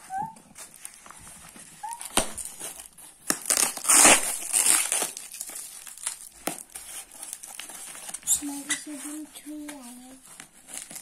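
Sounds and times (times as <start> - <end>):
wrapping crinkling and rustling: 0.0 - 11.0.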